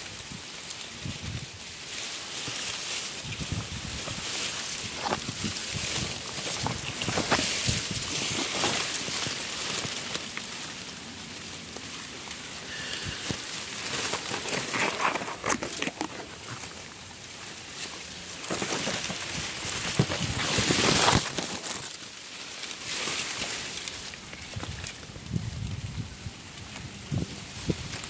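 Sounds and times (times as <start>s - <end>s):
leaves and reeds rustling: 0.0s - 28.0s.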